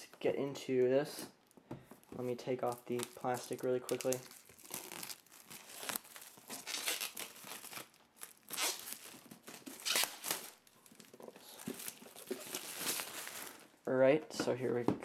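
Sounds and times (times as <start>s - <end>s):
plastic wrap crinkling and tearing: 1.4s - 13.8s.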